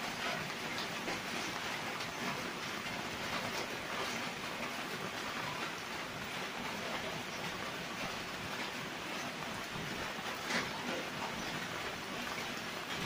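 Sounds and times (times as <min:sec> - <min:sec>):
steady rain on plants: 0:00.0 - 0:13.0.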